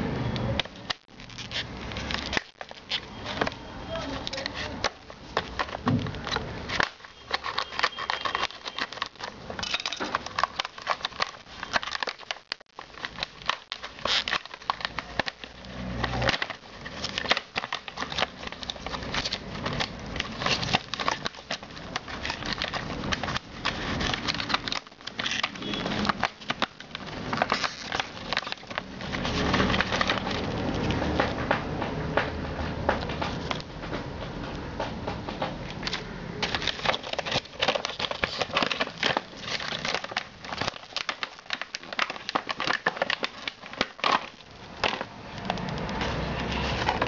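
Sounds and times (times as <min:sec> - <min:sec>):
plastic packaging crackling: 0:00.4 - 0:33.8, 0:35.3 - 0:47.0
paper insert rustling: 0:00.7 - 0:33.8, 0:35.1 - 0:47.0.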